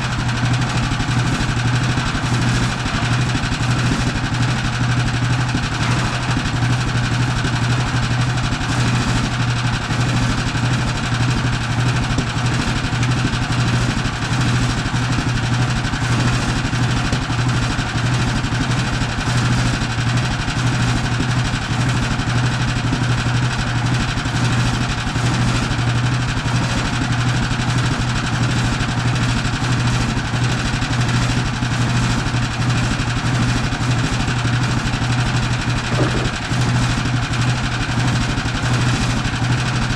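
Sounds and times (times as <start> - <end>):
gas engine running: 0.0 - 39.9.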